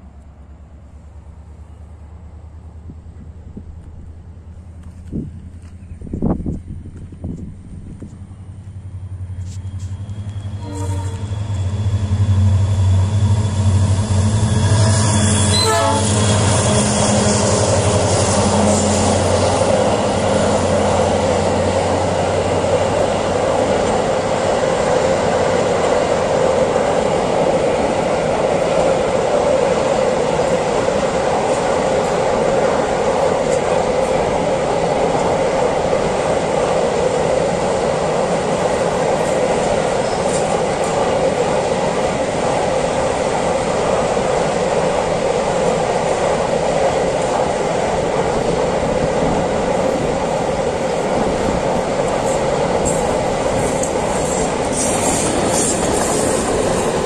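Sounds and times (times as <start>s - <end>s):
locomotive humming: 0.0s - 57.0s
wheels rattling on rails: 1.3s - 57.0s.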